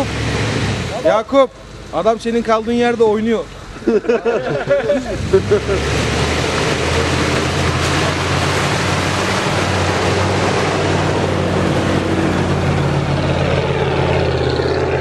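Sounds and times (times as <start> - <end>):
car engine under load: 0.0 - 15.0
tyres churning through mud: 0.0 - 15.0.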